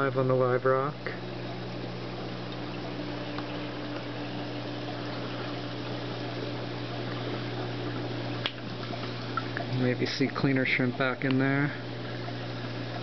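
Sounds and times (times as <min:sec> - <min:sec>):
circulating water: 0:00.0 - 0:13.0
low pump hum: 0:00.0 - 0:13.0.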